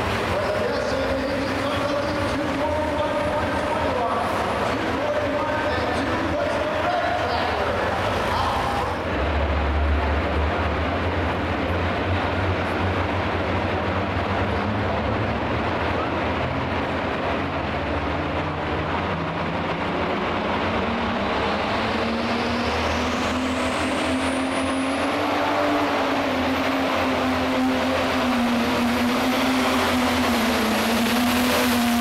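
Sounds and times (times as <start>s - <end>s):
tractor engine running loud: 0.0s - 32.0s.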